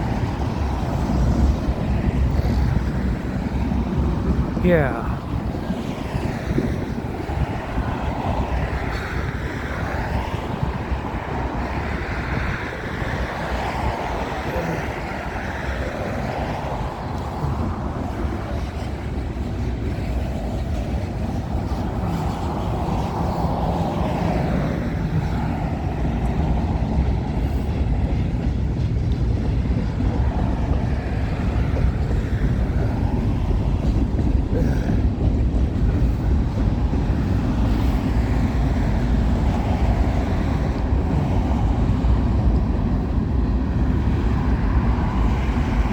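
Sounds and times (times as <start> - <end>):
freight train wheels on rails: 0.0 - 45.9.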